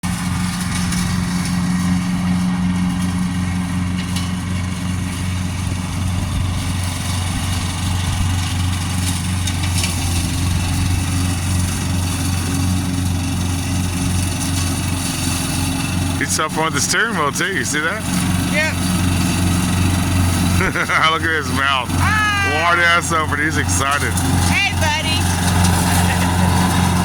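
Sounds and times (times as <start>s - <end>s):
lawn mower engine idling: 0.0s - 27.0s.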